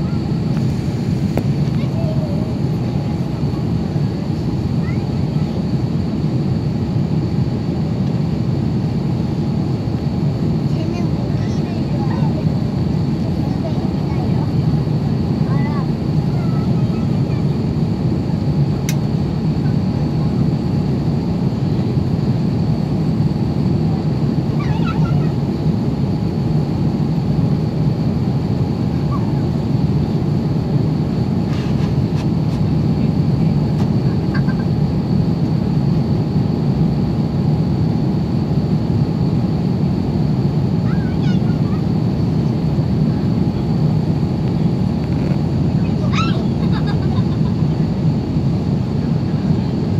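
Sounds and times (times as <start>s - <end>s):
aircraft cabin roar: 0.0s - 49.9s
faint steady whine: 0.0s - 49.9s.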